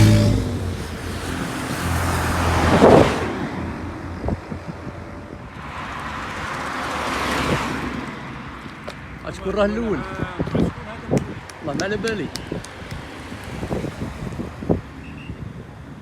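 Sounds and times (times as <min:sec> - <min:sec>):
vehicles passing by: 0:00.0 - 0:16.0.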